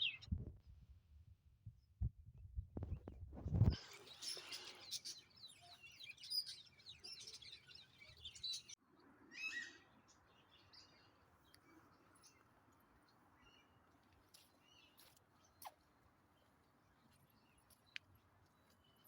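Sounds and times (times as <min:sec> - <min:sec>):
small birds chirping: 0:02.8 - 0:19.0.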